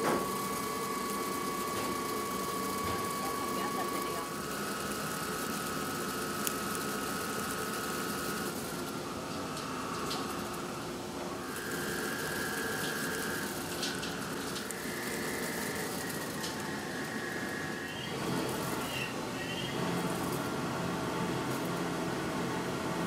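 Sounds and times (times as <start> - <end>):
lathe humming and whining: 0.0 - 23.0.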